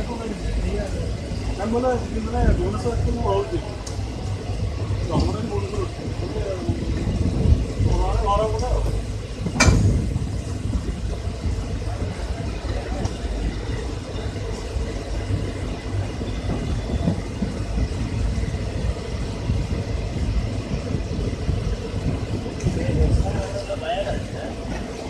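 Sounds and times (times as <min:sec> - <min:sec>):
train coaches rumbling past: 0:00.0 - 0:25.0.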